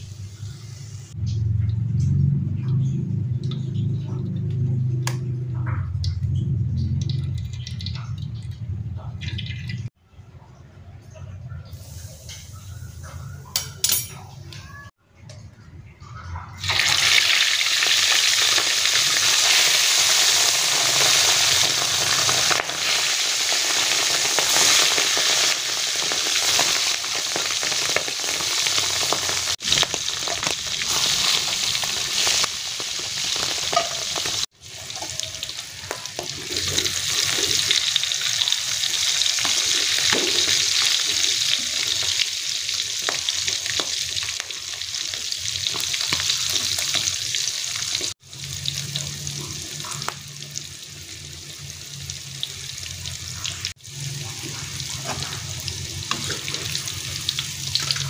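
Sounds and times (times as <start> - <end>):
meat deep-frying in oil: 0.0 - 10.0, 16.6 - 58.0.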